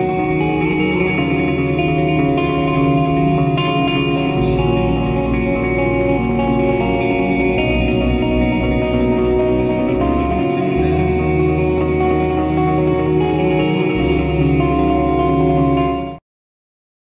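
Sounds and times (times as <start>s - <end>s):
guitar music: 0.0s - 16.2s.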